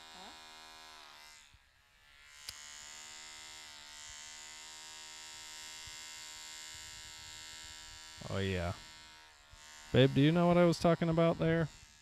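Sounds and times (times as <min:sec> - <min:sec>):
hair clippers buzzing: 0:00.0 - 0:12.0.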